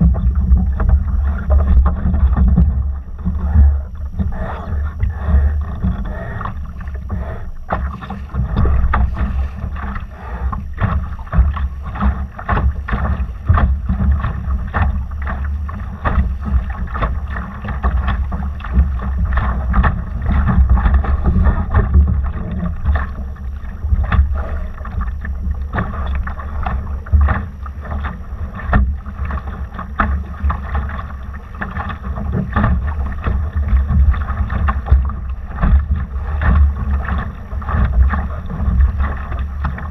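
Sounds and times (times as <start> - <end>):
water slapping against hull: 0.0 - 39.9
wind rumbling on microphone: 0.0 - 39.9.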